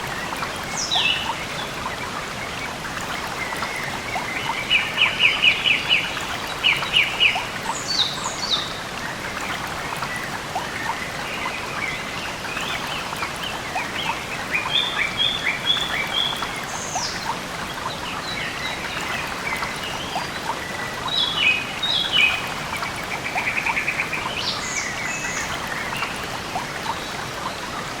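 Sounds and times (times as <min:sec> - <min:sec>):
birds chirping and trilling: 0:00.2 - 0:27.7.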